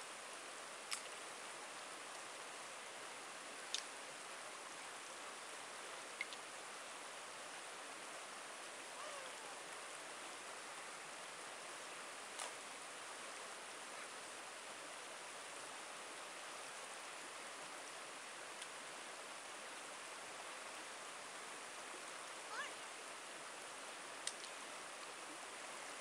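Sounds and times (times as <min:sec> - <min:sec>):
creek running over stones: 0:00.1 - 0:26.0.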